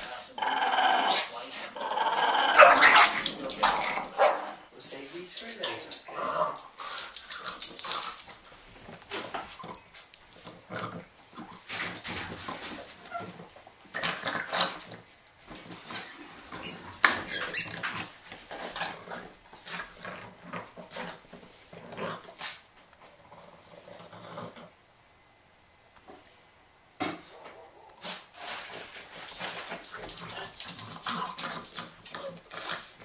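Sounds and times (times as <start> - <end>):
dogs growling in rough play: 0.0 - 4.7, 6.0 - 24.8, 29.4 - 33.0.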